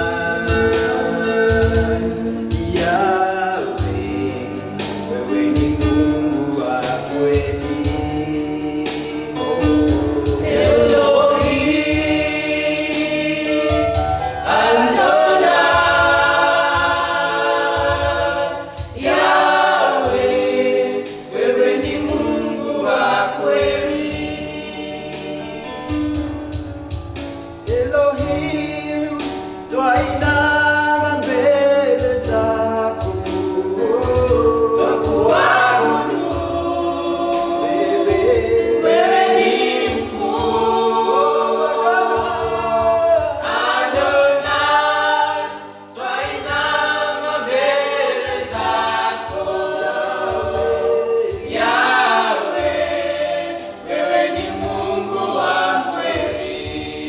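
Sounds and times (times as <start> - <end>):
choir singing gospel song: 0.0 - 57.0
electronic keyboard: 0.0 - 57.0.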